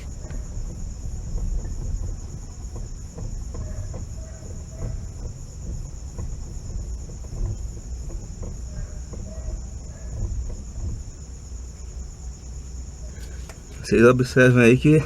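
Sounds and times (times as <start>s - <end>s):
crickets chirping: 0.0s - 15.0s
faint steering creaks: 0.0s - 15.0s
low rumbling: 0.0s - 15.0s.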